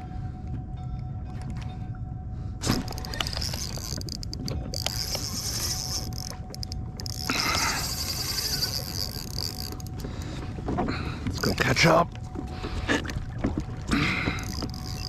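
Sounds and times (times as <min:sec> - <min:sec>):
steady low rumble: 0:00.0 - 0:15.0
water splashing around kayak: 0:02.6 - 0:15.0.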